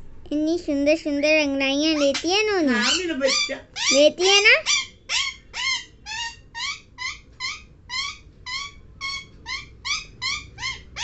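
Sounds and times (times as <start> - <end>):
parakeet calling rapidly: 1.7 - 11.0.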